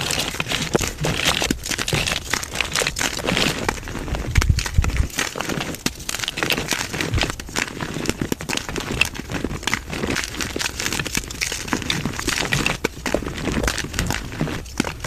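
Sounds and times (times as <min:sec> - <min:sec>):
chalk crunching: 0:00.0 - 0:15.0.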